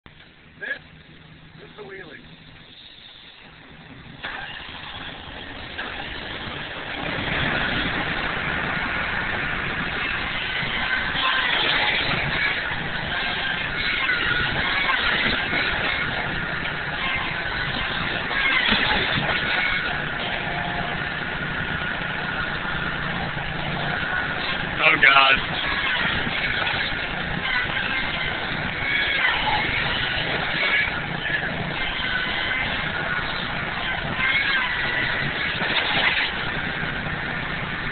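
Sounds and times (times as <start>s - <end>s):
mini-backhoe engine running: 0.3s - 37.9s.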